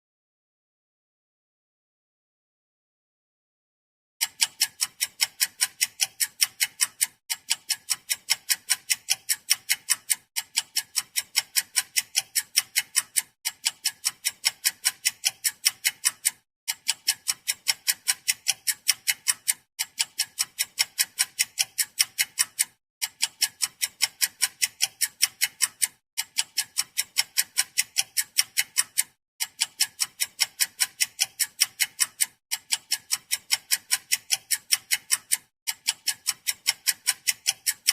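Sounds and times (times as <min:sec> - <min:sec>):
wall clock ticking: 0:04.2 - 0:37.9.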